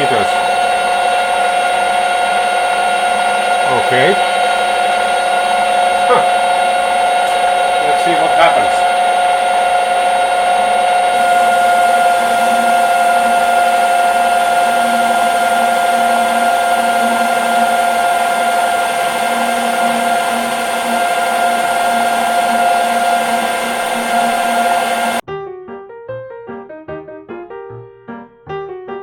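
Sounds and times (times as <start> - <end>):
high-pitched ring: 0.0 - 25.2
metal lathe cutting: 0.0 - 25.2.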